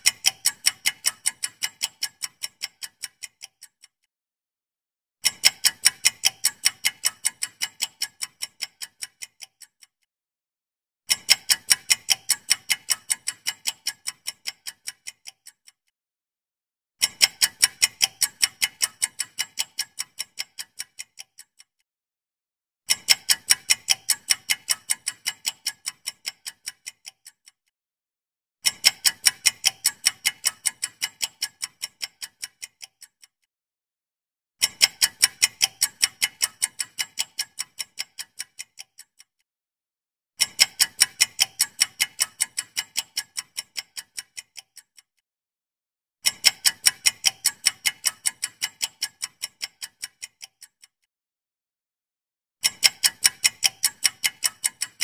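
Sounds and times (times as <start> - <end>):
fast crisp timer ticks: 0.0 - 4.1, 5.2 - 10.1, 11.1 - 15.9, 17.0 - 21.8, 22.9 - 27.7, 28.6 - 33.5, 34.6 - 39.4, 40.4 - 45.2, 46.2 - 51.1, 52.6 - 55.0.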